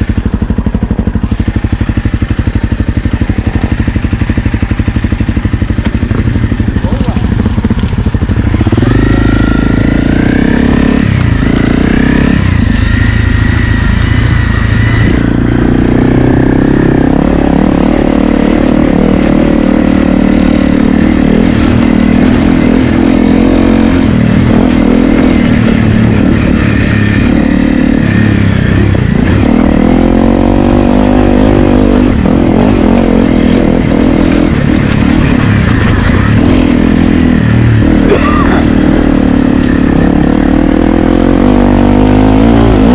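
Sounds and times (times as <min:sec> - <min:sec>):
trail bike engine under load: 0:00.0 - 0:42.9.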